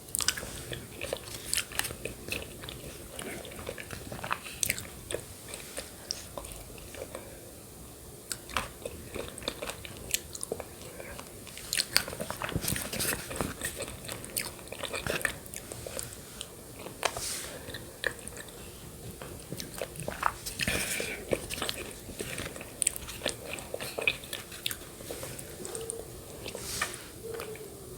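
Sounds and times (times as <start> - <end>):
mouth smacks and chewing: 0.0 - 7.4, 8.2 - 27.8.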